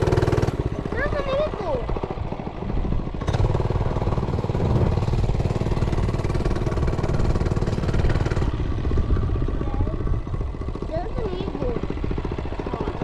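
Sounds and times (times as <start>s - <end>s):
mini bike engine running: 0.0s - 13.0s.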